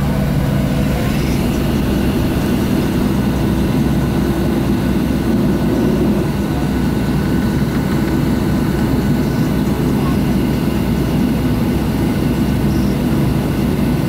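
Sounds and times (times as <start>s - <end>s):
jet engines droning in cabin: 0.0s - 14.0s.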